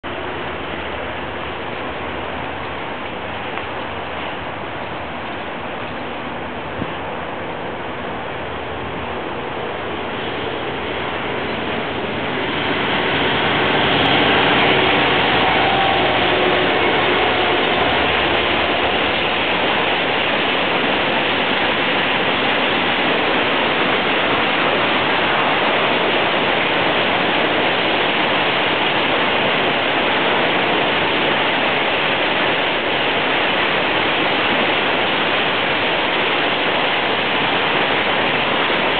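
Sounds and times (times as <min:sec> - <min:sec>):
diesel locomotive engine: 0:00.0 - 0:38.9
wheels rolling on rail: 0:00.1 - 0:38.9.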